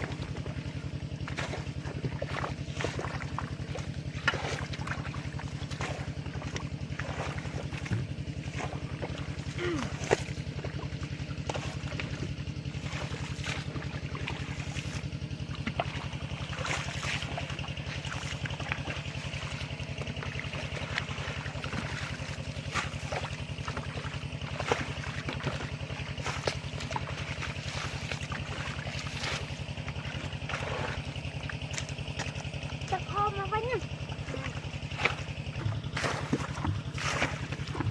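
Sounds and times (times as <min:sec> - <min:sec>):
small engine puttering: 0:00.0 - 0:37.9
water trickling and splashing: 0:00.0 - 0:37.9.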